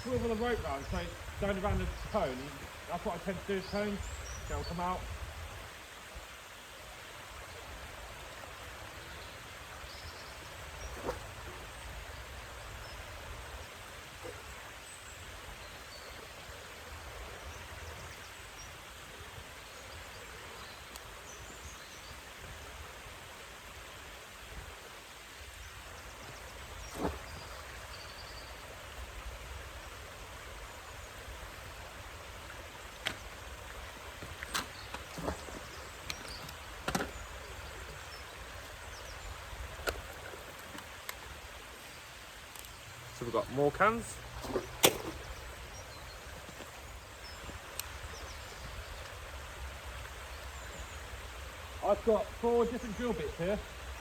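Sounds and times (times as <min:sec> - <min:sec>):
outdoor background noise: 0:00.0 - 0:54.0.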